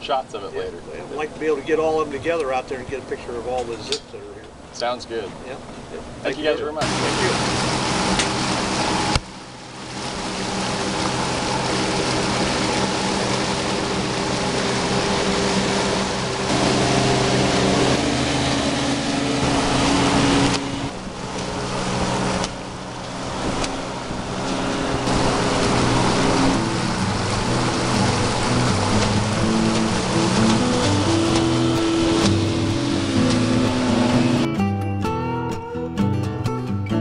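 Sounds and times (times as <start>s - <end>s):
outboard motor running: 0.0s - 34.6s.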